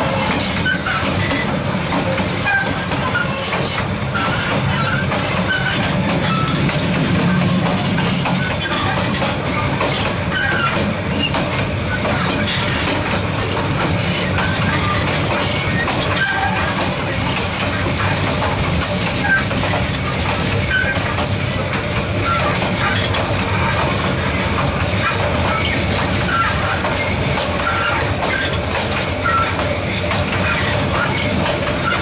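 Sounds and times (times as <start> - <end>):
train wheels rumbling and rattling: 0.0 - 32.0.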